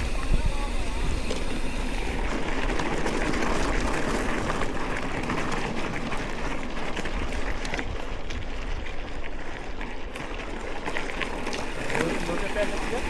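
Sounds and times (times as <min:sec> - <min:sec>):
bike clicking and rattling: 0:00.0 - 0:13.0
bike tyre and wind noise: 0:00.0 - 0:13.0.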